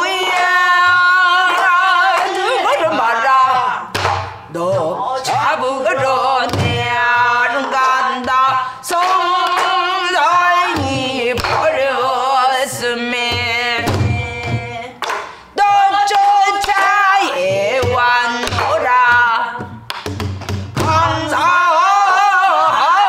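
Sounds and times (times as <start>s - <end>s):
woman singing with wide vibrato: 0.0s - 19.9s, 20.8s - 23.0s.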